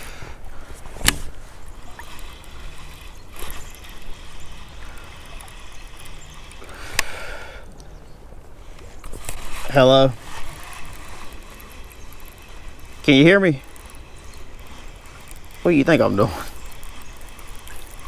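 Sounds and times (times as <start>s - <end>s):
sharp clicks: 1.0s - 7.9s, 8.7s - 18.0s.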